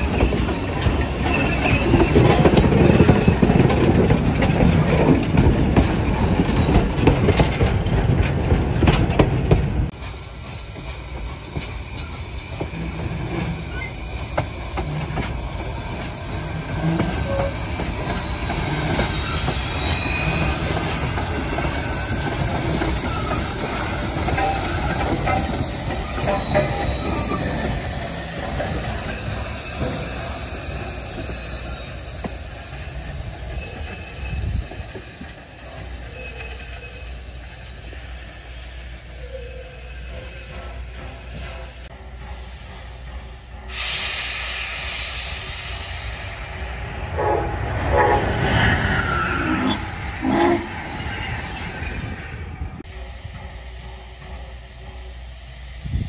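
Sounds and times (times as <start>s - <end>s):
high wheel squeal: 0.0s - 7.7s, 9.9s - 56.0s
train rumbling and clattering: 0.0s - 56.0s.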